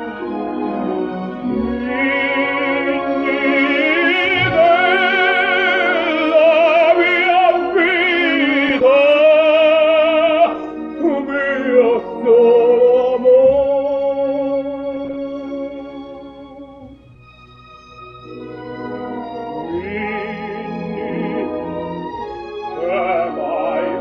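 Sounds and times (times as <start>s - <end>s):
operatic tenor singing: 0.0s - 24.0s
orchestra: 0.0s - 24.0s.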